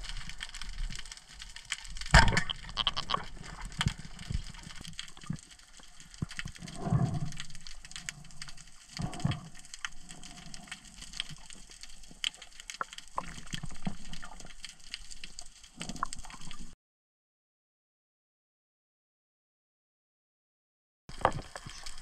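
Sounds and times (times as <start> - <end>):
underwater crackle of clicks: 0.0 - 16.8, 21.1 - 22.0.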